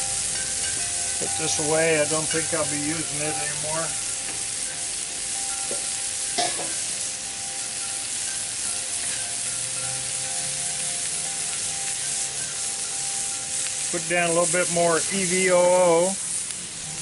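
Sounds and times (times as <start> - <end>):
vegetables sizzling on griddle: 0.0 - 17.0.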